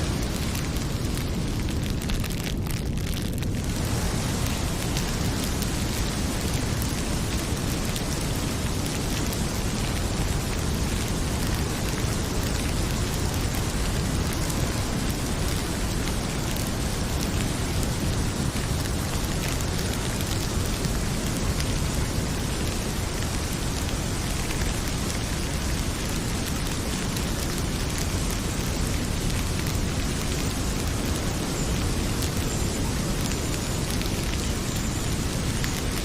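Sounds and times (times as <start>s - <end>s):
faint wood fire crackles: 0.0s - 36.0s
heavy rain pouring: 0.0s - 36.0s.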